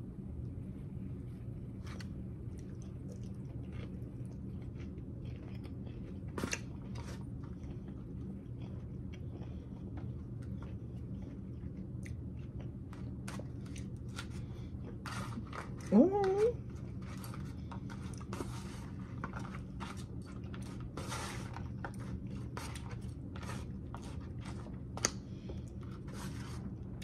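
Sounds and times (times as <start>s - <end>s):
steady low hum: 0.0s - 27.0s
chewing and crunching salad: 1.7s - 27.0s.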